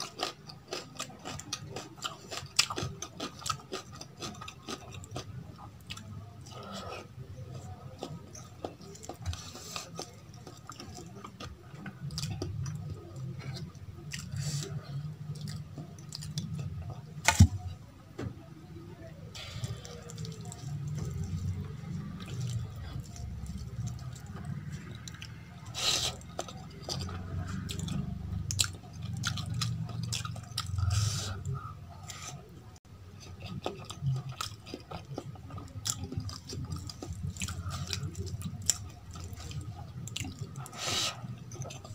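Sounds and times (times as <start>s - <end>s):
chewing and wet mouth sounds: 0.0s - 17.7s, 19.1s - 41.9s.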